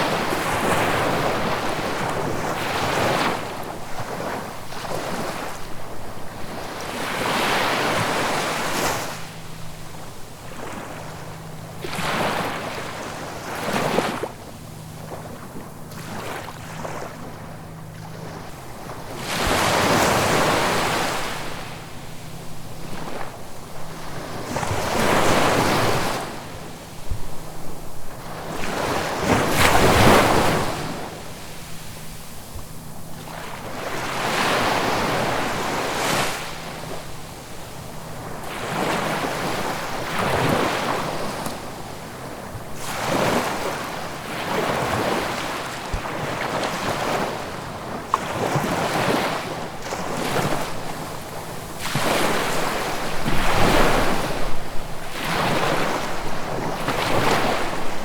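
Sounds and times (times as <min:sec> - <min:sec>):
ocean waves breaking ashore: 0:00.0 - 0:58.0.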